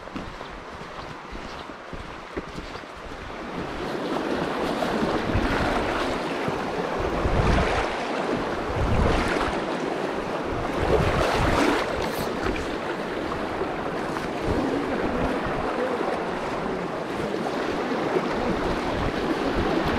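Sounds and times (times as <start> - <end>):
wind buffeting microphone: 0.0 - 19.9
river water rushing over rocks: 3.0 - 19.9.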